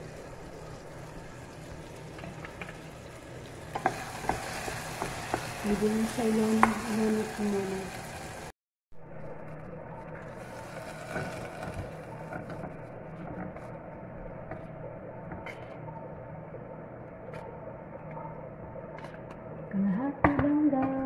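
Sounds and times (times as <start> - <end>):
mechanical kitchen hum: 0.0 - 21.0.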